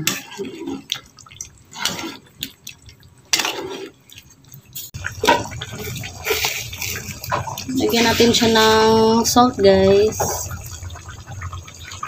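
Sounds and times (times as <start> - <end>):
ladle stirring sloshing stew: 0.0 - 12.0
stew simmering: 0.0 - 12.0.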